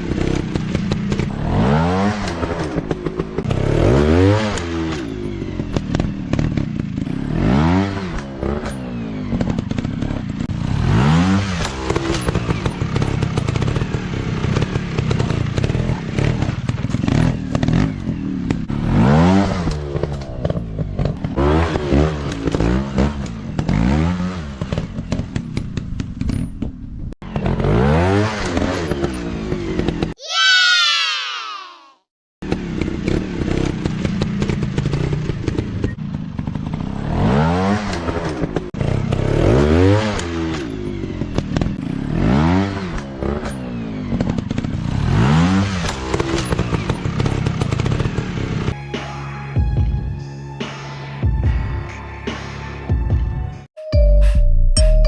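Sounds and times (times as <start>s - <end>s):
dirt bike engine revving: 0.0s - 25.5s, 27.2s - 31.0s, 32.5s - 48.8s.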